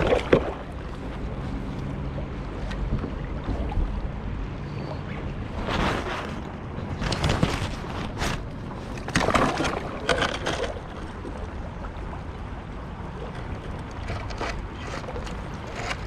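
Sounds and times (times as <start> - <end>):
steady low rumble: 0.0 - 10.1, 10.7 - 16.0
paddle strokes splashing water: 0.0 - 16.0
water lapping at hull: 0.0 - 16.0.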